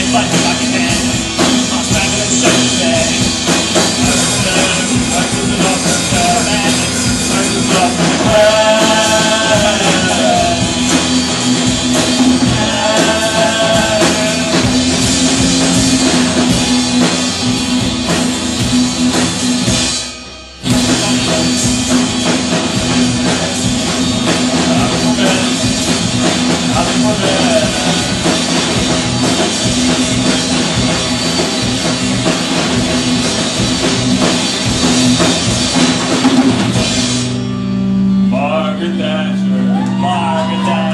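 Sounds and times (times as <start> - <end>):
drum kit: 0.0 - 40.9
electric guitar: 0.0 - 40.9
live rock band playing: 0.0 - 40.9.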